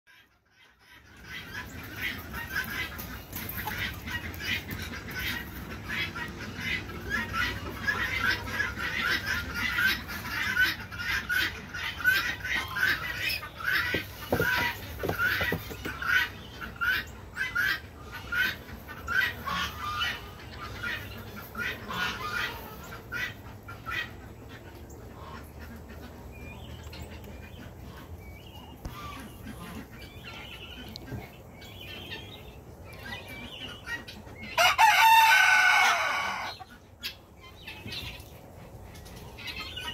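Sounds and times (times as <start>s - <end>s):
poultry squawking: 0.1s - 39.9s.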